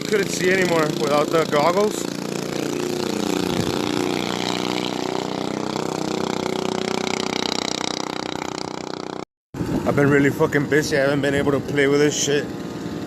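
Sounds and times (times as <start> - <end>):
mini bike engine running: 0.0 - 13.0.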